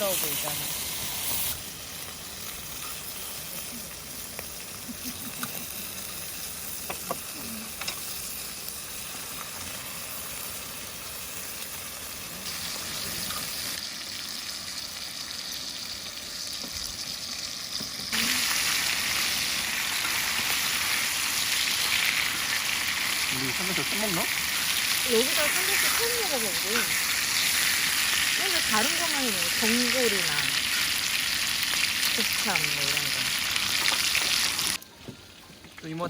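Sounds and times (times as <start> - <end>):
meat sizzling on a griddle: 0.0 - 34.8.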